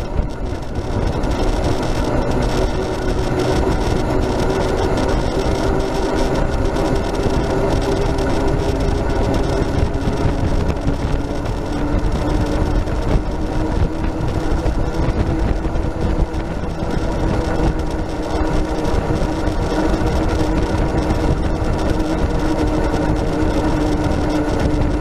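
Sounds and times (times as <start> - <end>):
tyre and wind rumble: 0.0 - 25.0.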